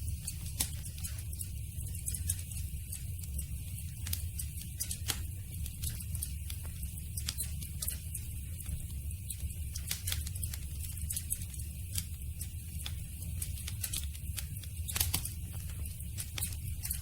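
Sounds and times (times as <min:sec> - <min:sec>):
low rumble of flames: 0:00.0 - 0:17.0.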